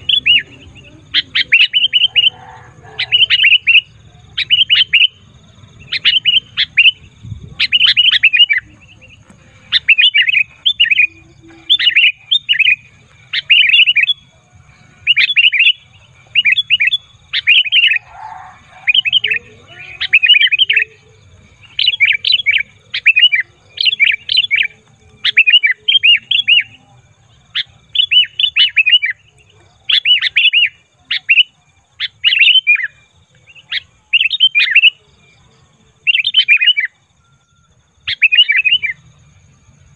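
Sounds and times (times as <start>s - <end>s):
bulbul calling: 0.0s - 35.3s, 36.0s - 39.9s.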